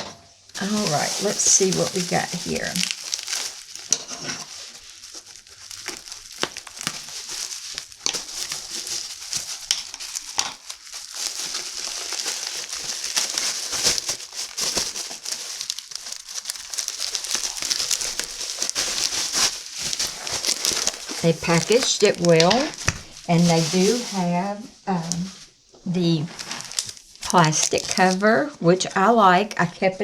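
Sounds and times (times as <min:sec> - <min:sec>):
packaging crinkling: 0:00.3 - 0:28.5.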